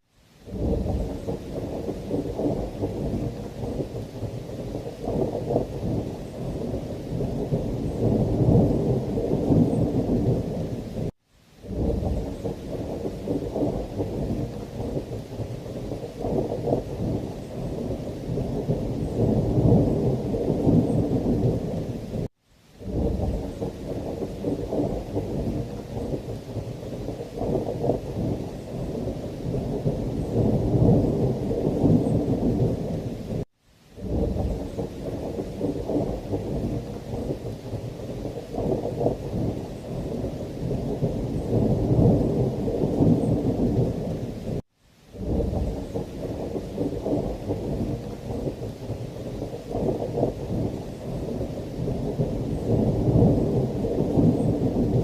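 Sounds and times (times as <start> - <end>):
heavy rain: 0.0 - 55.0
rolling thunder: 0.5 - 33.4, 34.0 - 44.6, 45.2 - 55.0.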